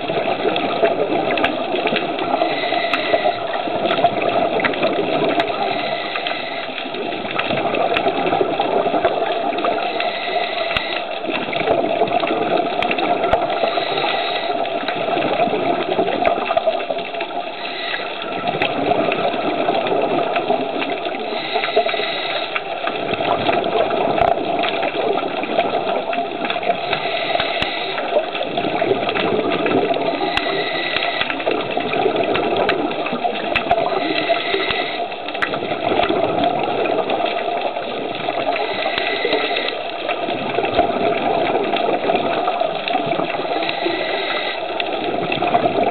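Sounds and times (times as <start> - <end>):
muffled underwater noise: 0.0 - 45.9.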